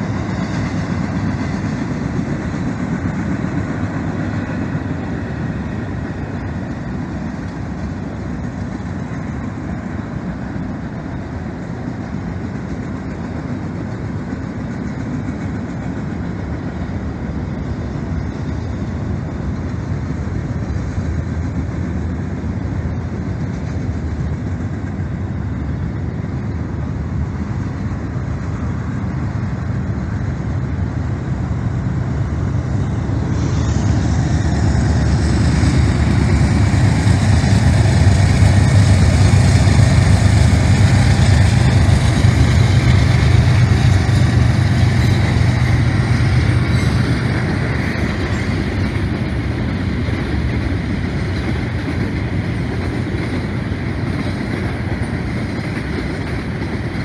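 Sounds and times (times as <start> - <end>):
diesel locomotive engine drone: 0.0 - 57.0
freight cars rolling past: 0.0 - 57.0.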